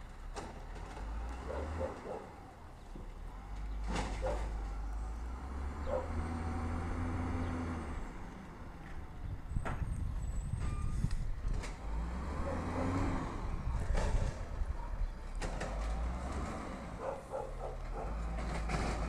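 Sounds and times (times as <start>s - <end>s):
garbage truck engine rumble: 0.0s - 19.0s.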